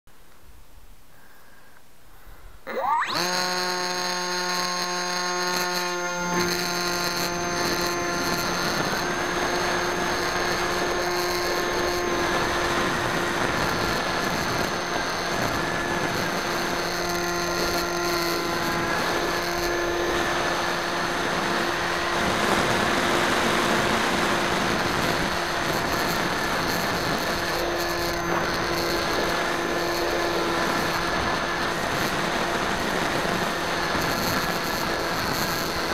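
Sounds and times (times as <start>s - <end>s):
electric motor and propeller whine: 2.6s - 35.9s.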